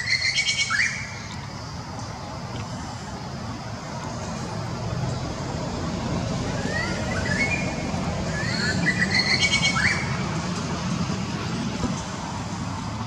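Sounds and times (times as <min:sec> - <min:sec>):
low outdoor rumble: 0:01.0 - 0:13.0.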